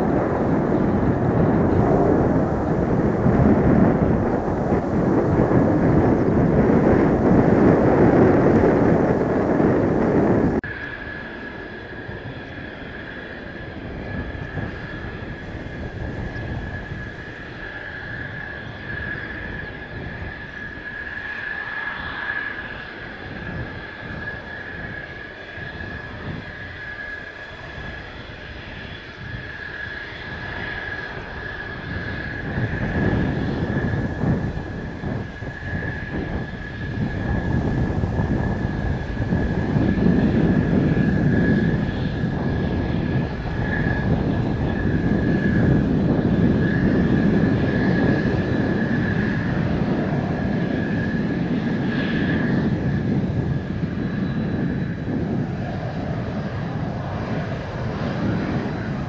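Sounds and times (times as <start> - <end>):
high jet engine whine: 0.0 - 59.0
jet engine rumbling: 0.0 - 59.0
wind buffeting microphone: 0.0 - 59.0.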